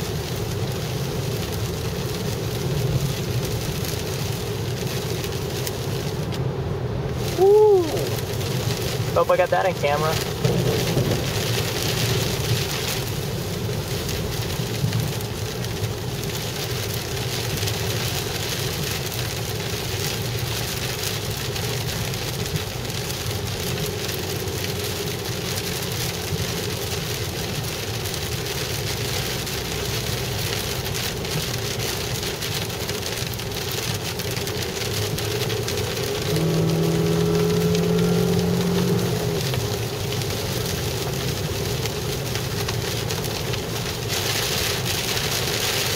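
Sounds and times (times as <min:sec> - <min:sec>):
heavy rain on car roof: 0:00.0 - 0:45.9
road noise: 0:00.0 - 0:45.9.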